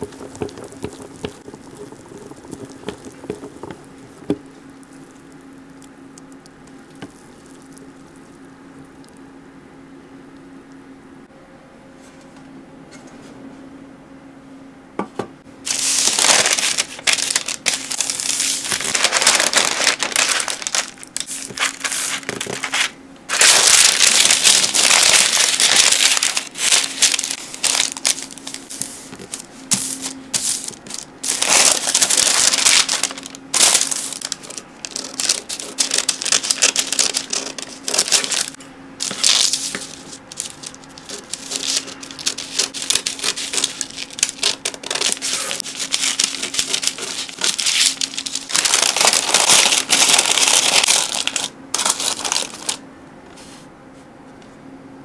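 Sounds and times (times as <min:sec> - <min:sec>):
baking paper crinkling: 0:00.0 - 0:09.1, 0:15.7 - 0:52.8.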